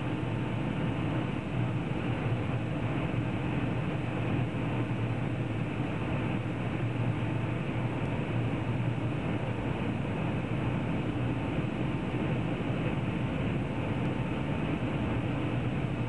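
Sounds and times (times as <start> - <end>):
airliner cabin engine and airflow rush: 0.0 - 16.0
low cabin hum: 0.0 - 16.0.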